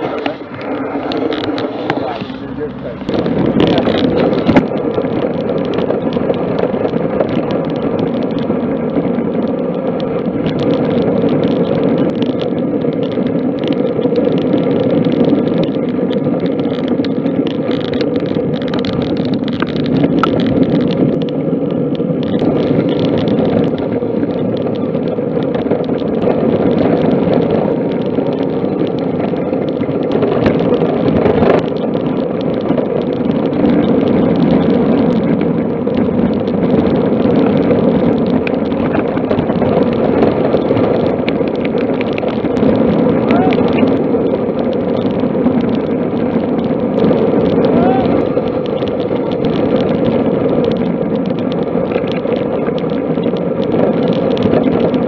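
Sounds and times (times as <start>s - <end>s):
tyre noise on tarmac: 0.0s - 55.0s
wind buffeting microphone: 0.0s - 55.0s.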